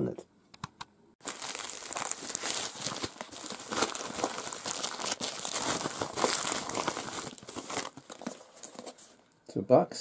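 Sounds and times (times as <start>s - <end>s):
plastic bag crinkling: 1.2s - 9.3s.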